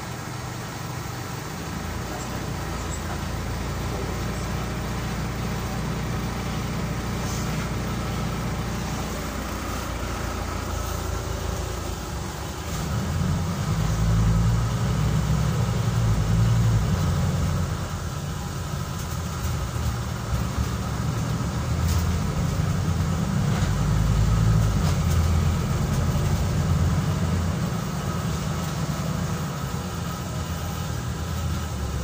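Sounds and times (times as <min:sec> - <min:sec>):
bus diesel engine rumble: 0:00.0 - 0:32.0.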